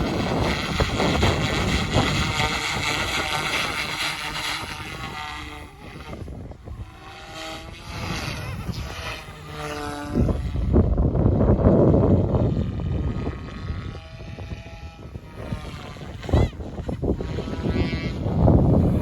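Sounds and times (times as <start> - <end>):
rc helicopter rotor whine: 0.0 - 19.0
wind rumble on microphone: 0.0 - 19.0.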